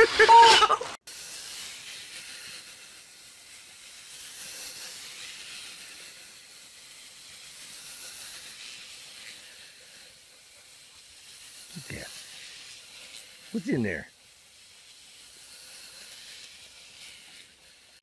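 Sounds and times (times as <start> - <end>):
steady hissing noise: 0.0 - 18.0.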